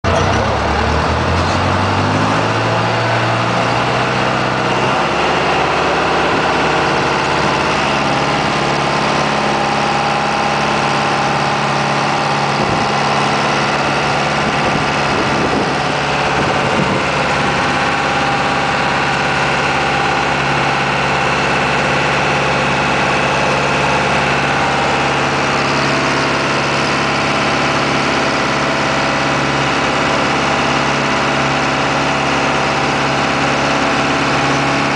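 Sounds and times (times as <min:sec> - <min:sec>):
ferry engine running: 0:00.0 - 0:34.9.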